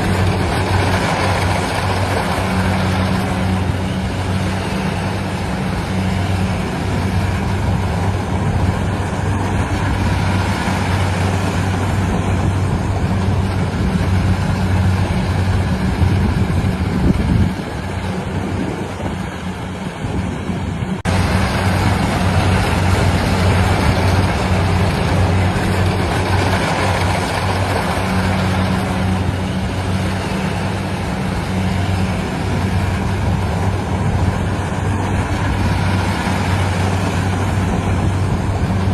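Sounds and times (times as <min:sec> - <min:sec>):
harvesting machine engine humming: 0:00.0 - 0:38.9.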